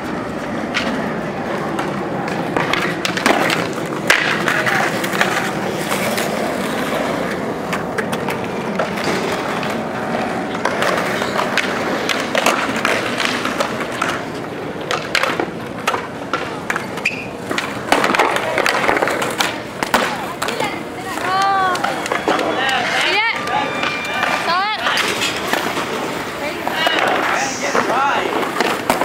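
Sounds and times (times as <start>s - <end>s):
skateboard clacks: 0.0s - 29.0s
skateboard wheels rolling on concrete: 0.0s - 29.0s.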